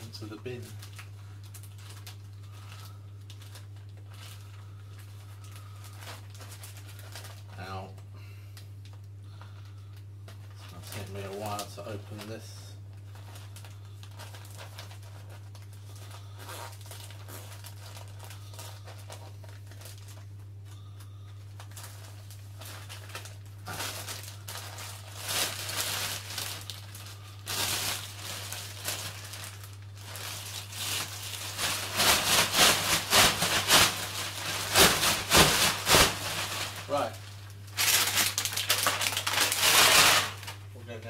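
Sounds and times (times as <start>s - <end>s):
plastic bag crinkling and rustling: 0.0s - 41.0s
steady low hum: 0.0s - 41.0s.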